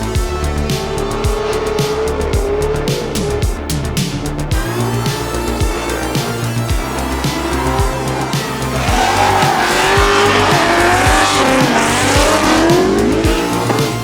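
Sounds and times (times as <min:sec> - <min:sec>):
car engine revving: 0:00.0 - 0:14.0
music with steady beat: 0:00.0 - 0:14.0
tyres squealing: 0:00.0 - 0:14.0.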